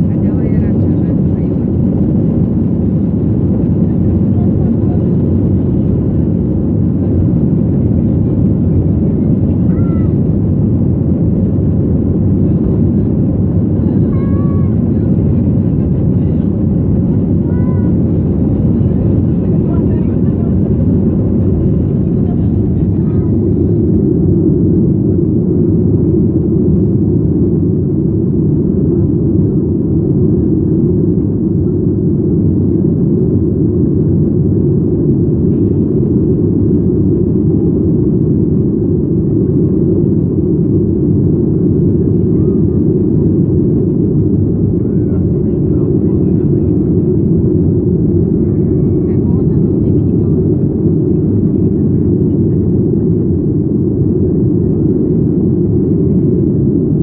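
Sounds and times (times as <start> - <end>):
jet engines low rumble: 0.0 - 57.0.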